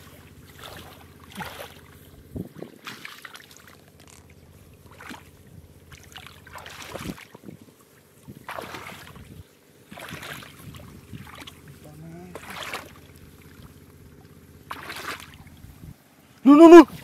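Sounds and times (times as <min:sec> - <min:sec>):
hands splashing in muddy water: 0:00.0 - 0:15.6
steady low hum: 0:00.0 - 0:17.0.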